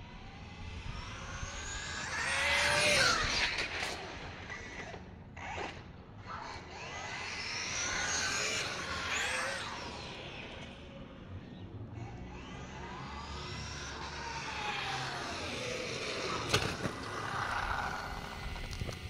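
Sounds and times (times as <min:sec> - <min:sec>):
electric rc truck motor whining: 0:00.0 - 0:19.0.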